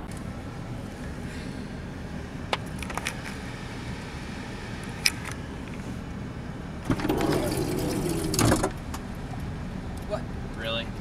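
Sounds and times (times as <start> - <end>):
minivan engine idling: 0.0 - 11.0.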